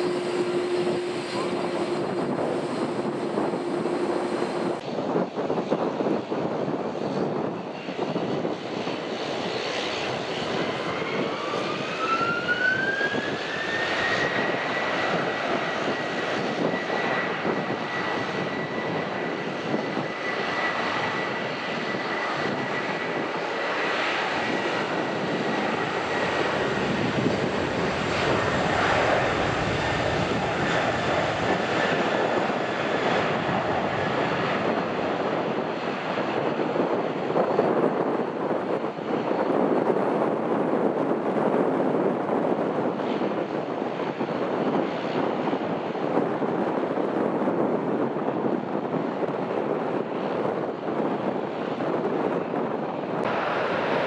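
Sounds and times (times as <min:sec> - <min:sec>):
jet engine whine rising: 0:00.0 - 0:45.2, 0:53.1 - 0:54.0
jet engines running: 0:00.0 - 0:54.0.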